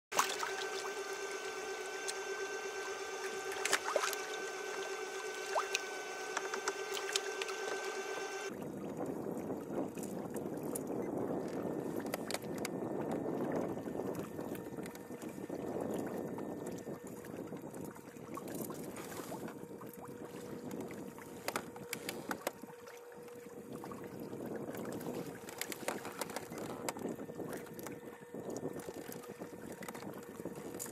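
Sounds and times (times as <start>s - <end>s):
faint steady hum: 0.1s - 30.9s
water lapping against kayak hull: 0.1s - 30.9s.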